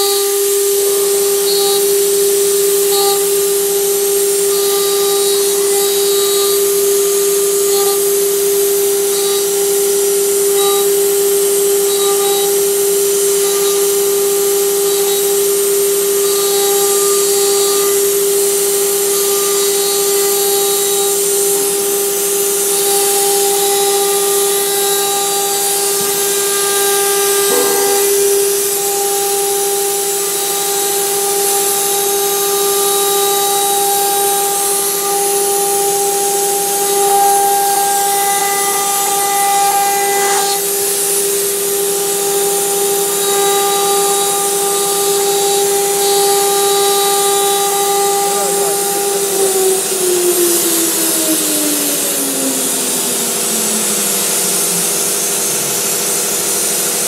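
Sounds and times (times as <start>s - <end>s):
router spindles whining: 0.0s - 57.0s.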